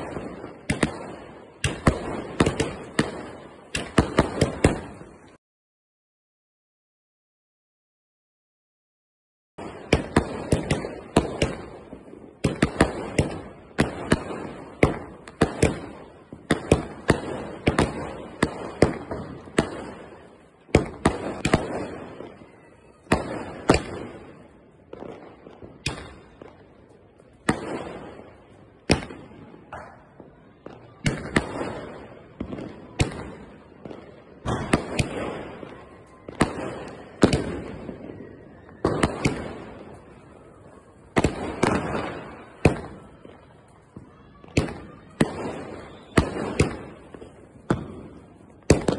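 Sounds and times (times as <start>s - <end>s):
firework bangs: 0.0s - 5.4s, 9.6s - 48.9s.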